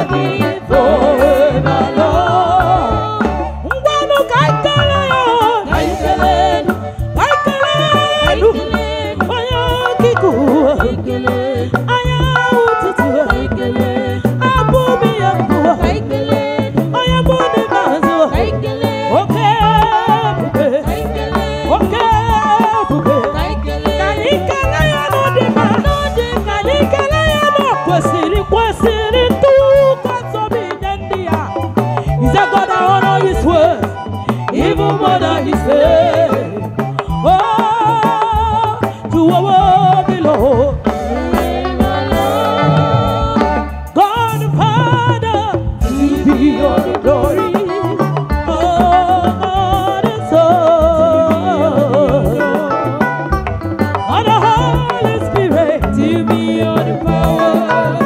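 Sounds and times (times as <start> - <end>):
women's vocal group singing: 0.0 - 53.2, 54.0 - 58.0
drum kit beat: 0.0 - 58.0
steady bass line: 0.0 - 58.0.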